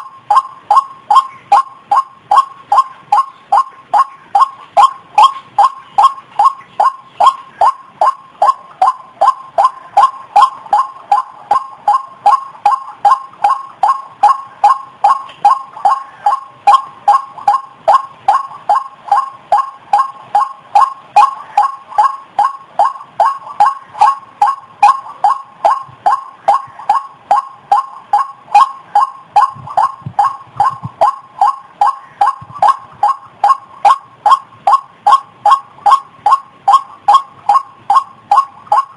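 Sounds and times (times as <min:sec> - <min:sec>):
waterhen calling: 0:00.0 - 0:38.9.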